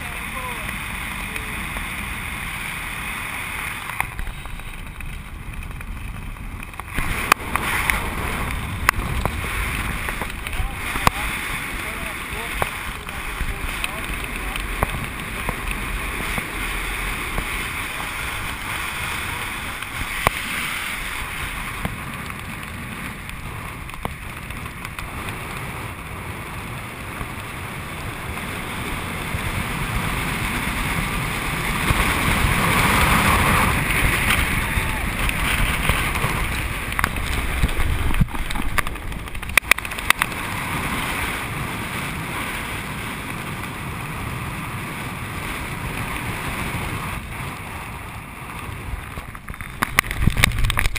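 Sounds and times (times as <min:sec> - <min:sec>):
wind rushing over microphone: 0:00.0 - 0:50.9.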